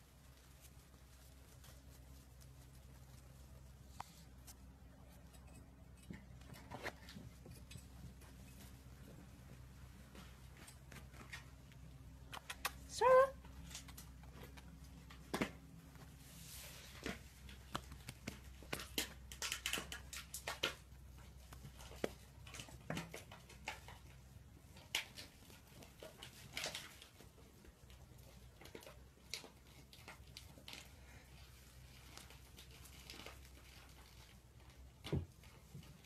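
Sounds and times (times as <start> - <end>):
puppy paws on concrete: 0.0 - 36.0.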